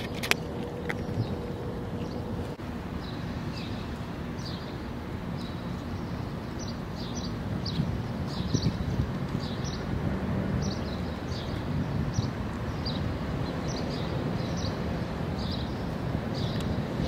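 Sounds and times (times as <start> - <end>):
small birds chirping: 0.0 - 17.0
steady low background noise: 0.0 - 17.0.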